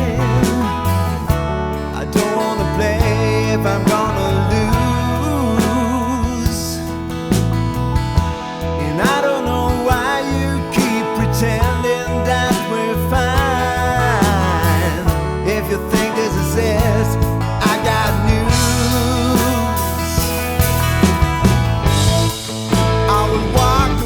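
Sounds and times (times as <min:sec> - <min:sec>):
person singing: 0:00.0 - 0:07.0, 0:08.8 - 0:20.5, 0:22.7 - 0:24.0
guitar: 0:00.0 - 0:24.0.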